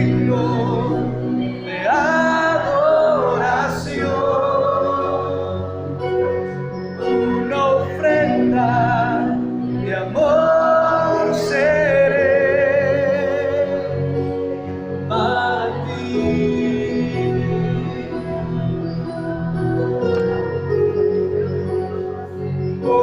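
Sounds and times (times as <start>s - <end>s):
instrumental accompaniment: 0.0s - 23.0s
voices singing worship song: 0.0s - 23.0s.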